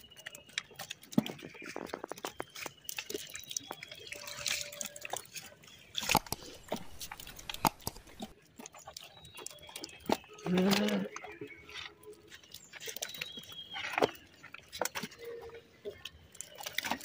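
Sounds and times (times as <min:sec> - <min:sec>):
water splashing and dripping: 0:00.0 - 0:17.0.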